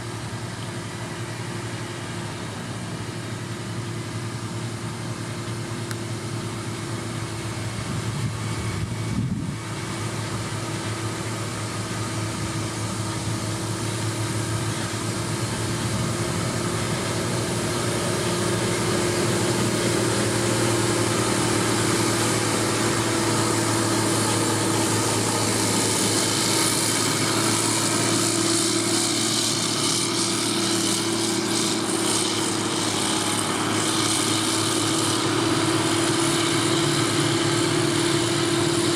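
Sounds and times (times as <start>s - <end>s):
heavy machine engine running: 0.0s - 38.9s.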